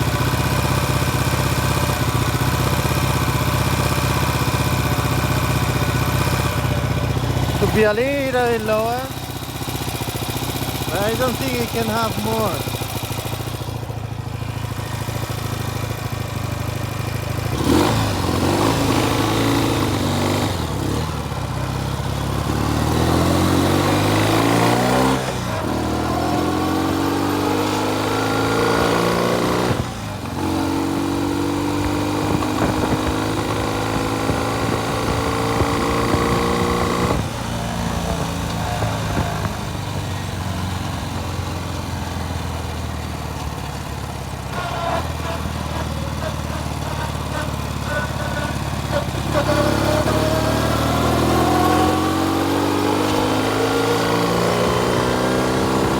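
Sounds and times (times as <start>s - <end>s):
motorcycle engine revving and idling: 0.0s - 55.9s.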